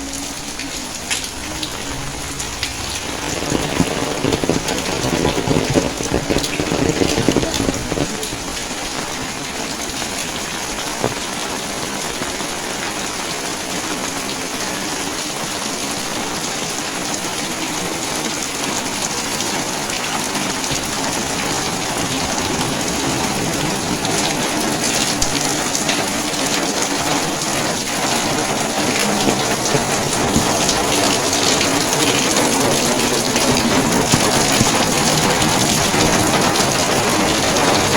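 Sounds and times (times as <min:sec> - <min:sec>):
rain splashing on surfaces: 0:00.0 - 0:37.9.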